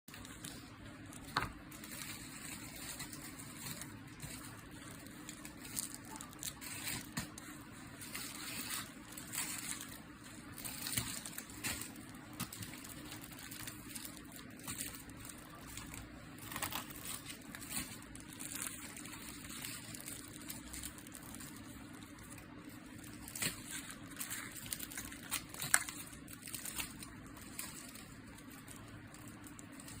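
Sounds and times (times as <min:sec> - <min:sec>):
plastic packaging crinkling: 0:00.1 - 0:30.0.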